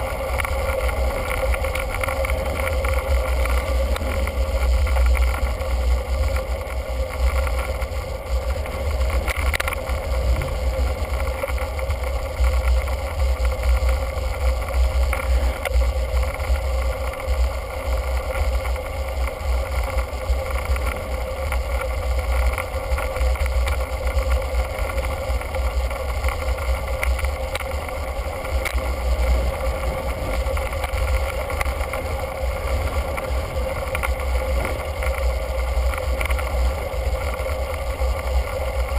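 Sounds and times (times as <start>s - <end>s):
wind buffeting microphone: 0.0s - 18.0s, 18.7s - 38.9s
bicycle ride hum: 0.0s - 38.9s.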